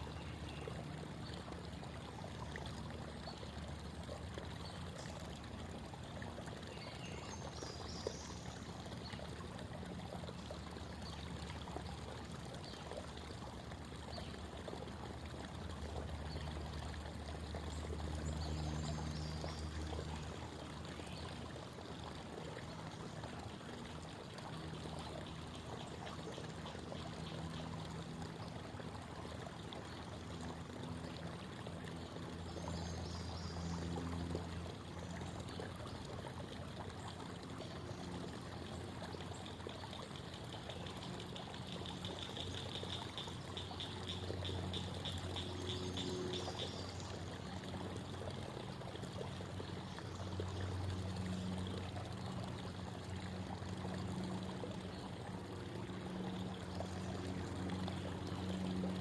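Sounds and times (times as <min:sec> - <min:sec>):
creek water babbling over rocks: 0:00.0 - 0:59.0.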